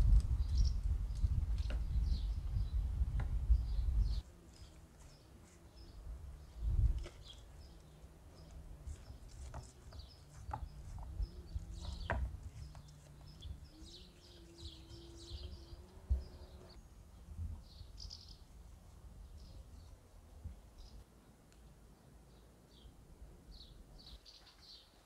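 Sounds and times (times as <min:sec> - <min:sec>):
small birds chirping: 0:00.0 - 0:18.5, 0:19.2 - 0:20.1, 0:20.8 - 0:25.0.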